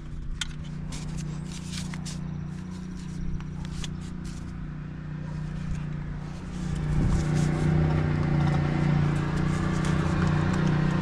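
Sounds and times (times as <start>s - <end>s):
plastic clicks and scrapes: 0.0s - 4.6s, 5.4s - 11.0s.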